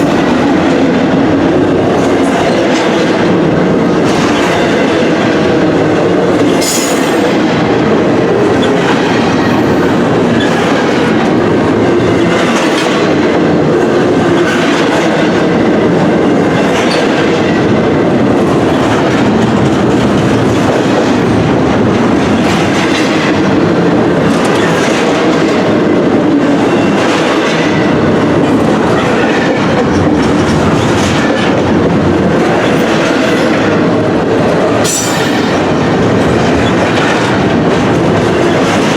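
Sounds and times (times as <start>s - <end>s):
train wheels rumbling on rail: 0.0s - 38.9s
wheels click-clacking over rail joints: 0.0s - 38.9s.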